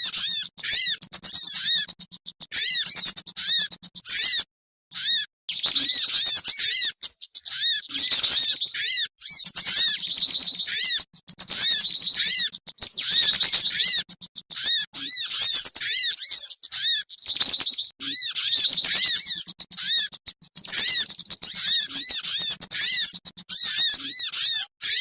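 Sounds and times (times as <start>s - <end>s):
high arching bird chirps: 0.0s - 25.0s
rapid bird twittering: 0.0s - 25.0s.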